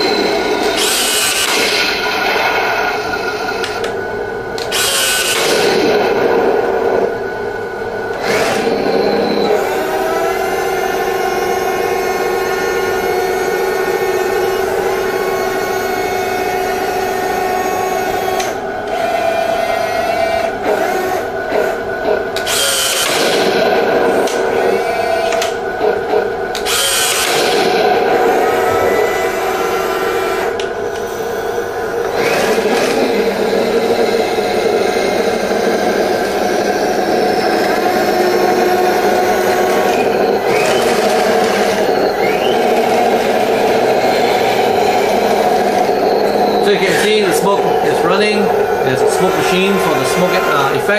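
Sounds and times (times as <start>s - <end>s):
electric motors whining: 0.0s - 50.9s
simulated tank engine sound: 0.0s - 50.9s.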